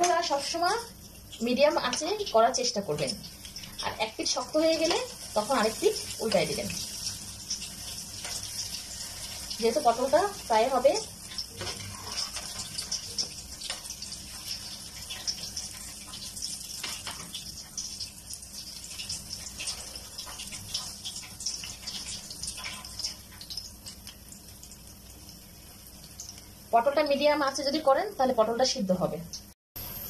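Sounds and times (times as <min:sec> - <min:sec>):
frying in hot oil: 0:00.0 - 0:30.0.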